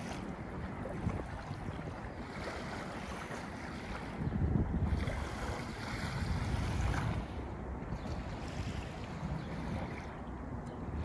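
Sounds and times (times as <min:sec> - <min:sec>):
small waves washing onto shore: 0:00.0 - 0:10.6
wind buffeting microphone: 0:00.0 - 0:11.0.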